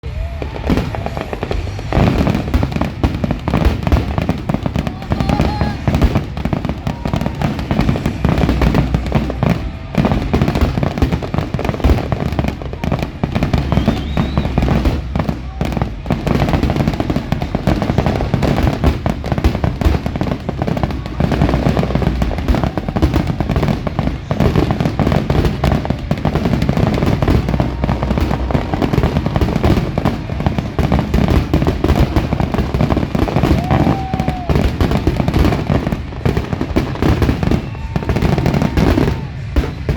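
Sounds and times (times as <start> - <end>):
firework bursts and booms: 0.0 - 39.9
fireworks crackling: 0.0 - 39.9.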